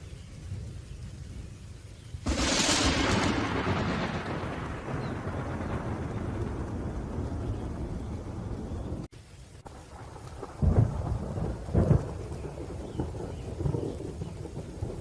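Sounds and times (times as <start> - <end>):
low thunder rumble: 0.0 - 15.0
rain: 0.0 - 15.0
loud thunder rumbles: 2.2 - 9.1, 9.7 - 15.0.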